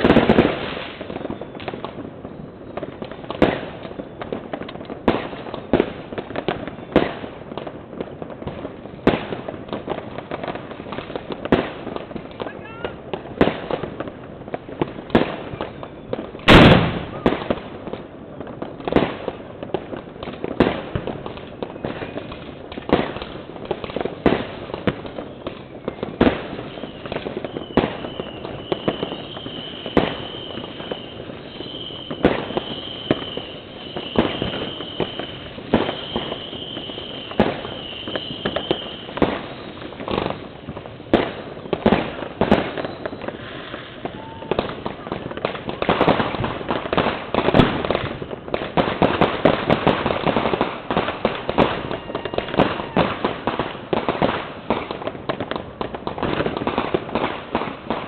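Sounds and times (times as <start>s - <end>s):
fireworks bangs and cracks: 0.0s - 58.0s.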